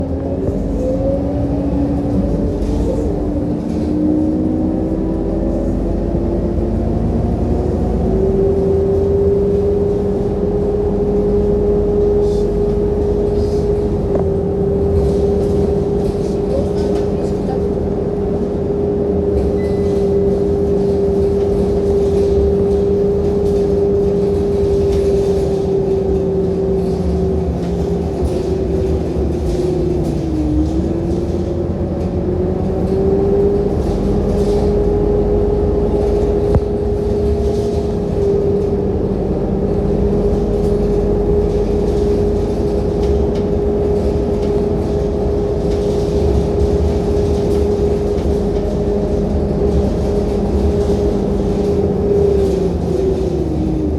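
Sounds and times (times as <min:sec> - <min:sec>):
bus drivetrain whine: 0:00.0 - 0:53.9
low rumble: 0:00.0 - 0:53.9.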